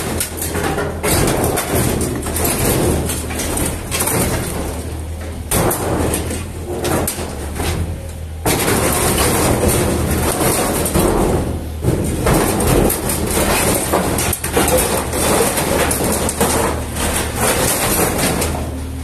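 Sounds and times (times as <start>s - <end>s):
excavator diesel engine hum: 0.0s - 19.0s
machine clattering and scraping: 0.0s - 19.0s.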